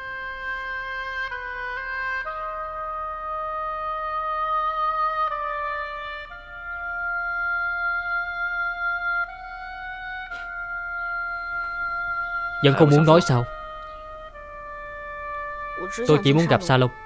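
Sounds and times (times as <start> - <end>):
slow wind instrument melody: 0.0 - 17.0.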